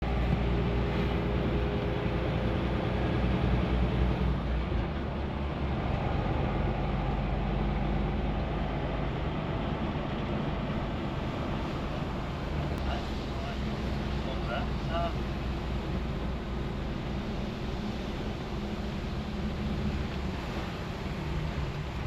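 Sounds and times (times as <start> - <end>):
road noise: 0.0 - 22.0
truck diesel engine droning: 0.0 - 22.0.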